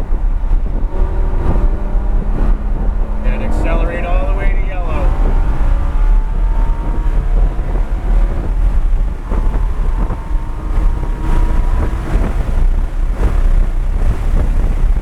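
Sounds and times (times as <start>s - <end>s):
car engine accelerating hard: 0.0s - 15.0s
wind noise: 0.0s - 15.0s.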